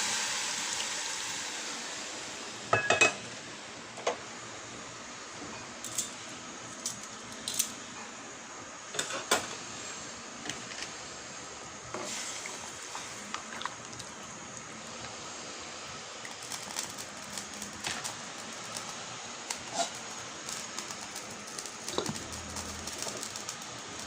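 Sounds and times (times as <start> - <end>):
steady cooking hiss: 0.0 - 24.0.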